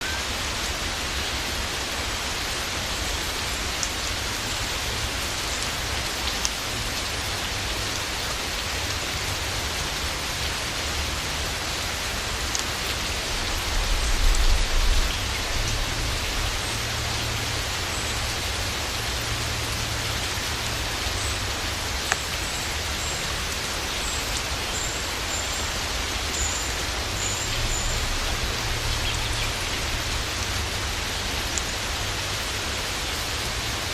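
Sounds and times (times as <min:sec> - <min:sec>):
rain on foliage: 0:00.0 - 0:33.9.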